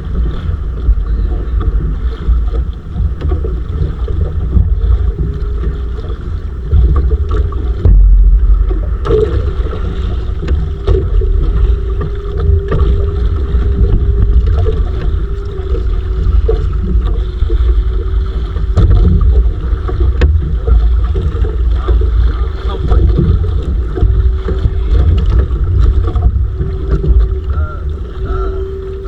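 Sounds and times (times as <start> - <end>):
motor hum: 0.0 - 29.0
wind buffeting microphone: 0.0 - 29.0.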